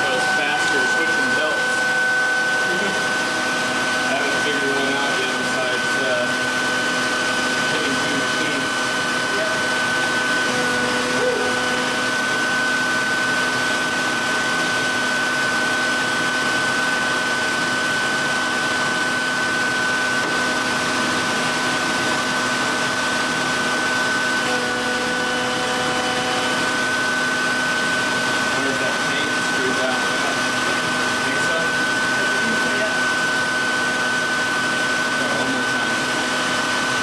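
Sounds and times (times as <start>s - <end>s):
electric knife sharpener grinding: 0.0s - 32.9s.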